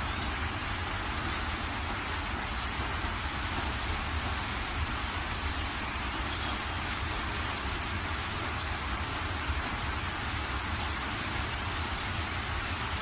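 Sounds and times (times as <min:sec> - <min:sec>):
water rushing through spillway: 0:00.0 - 0:13.0.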